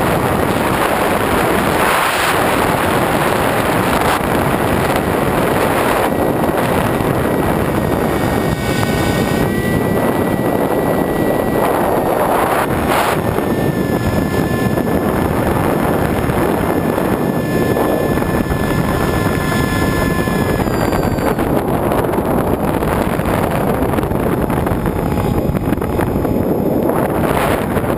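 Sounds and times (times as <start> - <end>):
electric motor and propeller whine: 0.0 - 27.9
wind rushing over microphone: 0.0 - 27.9.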